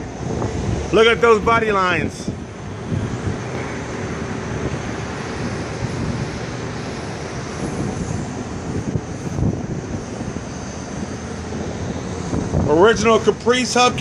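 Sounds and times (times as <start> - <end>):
distant traffic: 0.0 - 14.0
wind buffeting microphone: 0.0 - 14.0.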